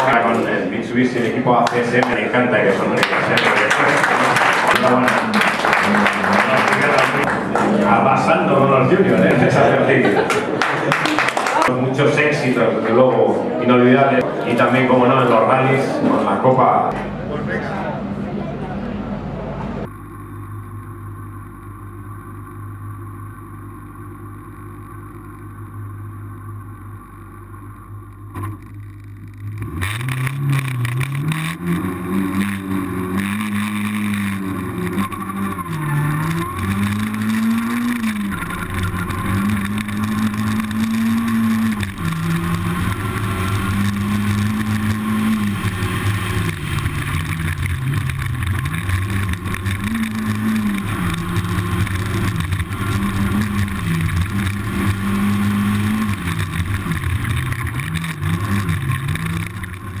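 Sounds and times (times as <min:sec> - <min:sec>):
rally car engine revving: 0:00.0 - 0:20.0, 0:24.8 - 1:00.0.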